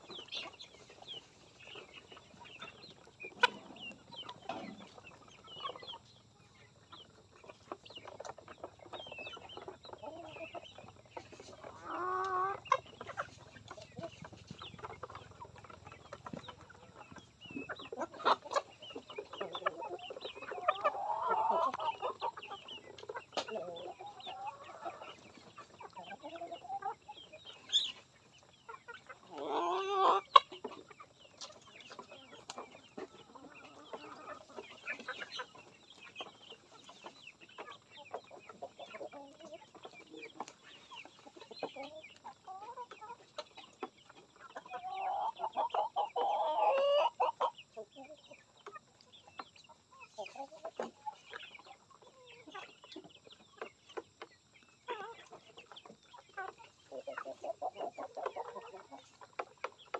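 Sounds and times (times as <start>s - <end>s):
chickens clucking and calling: 0.0s - 59.9s.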